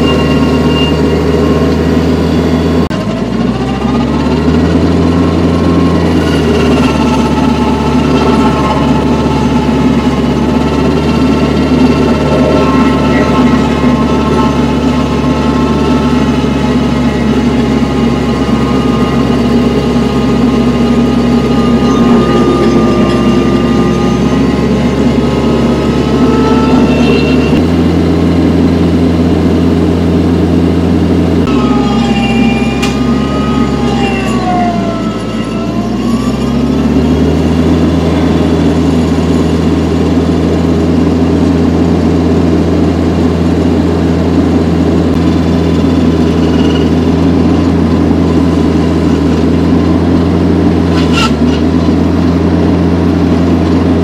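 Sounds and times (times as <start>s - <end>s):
high whine: 0.0s - 54.0s
tractor diesel engine working: 0.0s - 54.0s.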